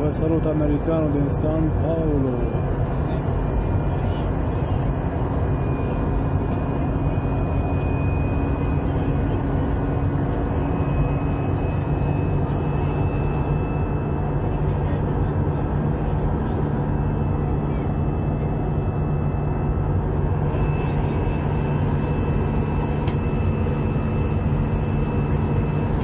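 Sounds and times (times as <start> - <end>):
faint high whine: 0.0 - 26.0
jet cabin engine noise: 0.0 - 26.0.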